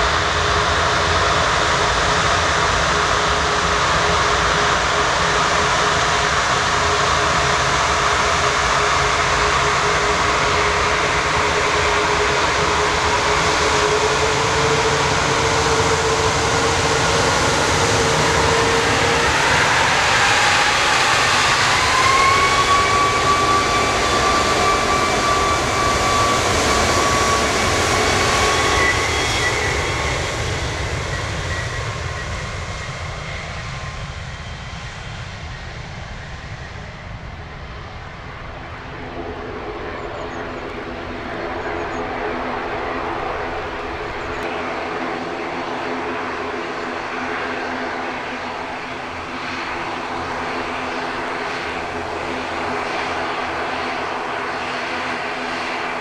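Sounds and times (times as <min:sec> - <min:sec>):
jet engines spooling up: 0:00.0 - 0:56.0.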